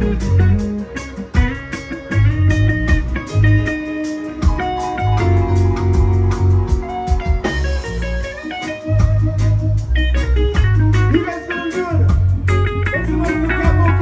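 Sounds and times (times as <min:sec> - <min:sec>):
bass guitar: 0:00.0 - 0:14.0
drums: 0:00.0 - 0:14.0
lead electric guitar: 0:00.0 - 0:14.0.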